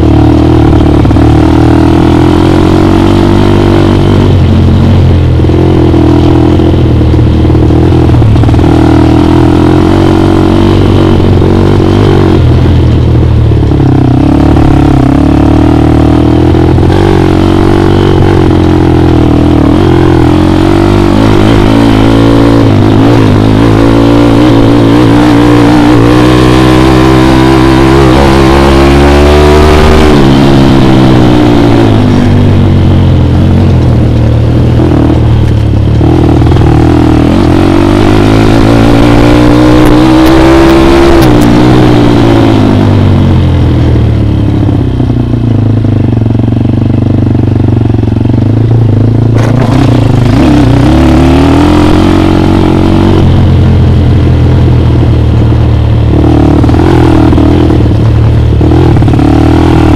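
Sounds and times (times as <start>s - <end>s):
dirt bike engine revving: 0.0s - 12.6s, 13.6s - 33.8s, 34.7s - 43.4s, 49.3s - 59.9s.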